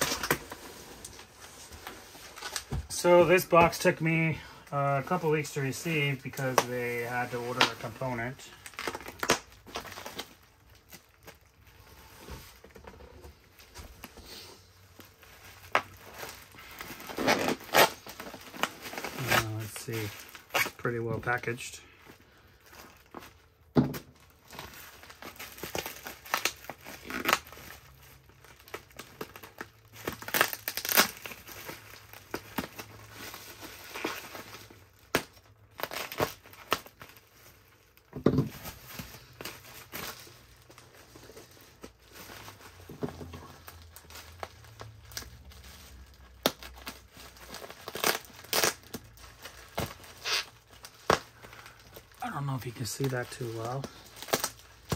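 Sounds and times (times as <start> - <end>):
packing material crinkling and tearing: 0.0 - 54.9.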